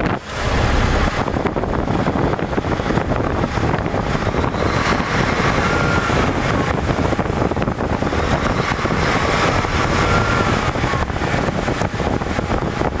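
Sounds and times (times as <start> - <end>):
truck diesel engine revving: 0.0 - 13.0.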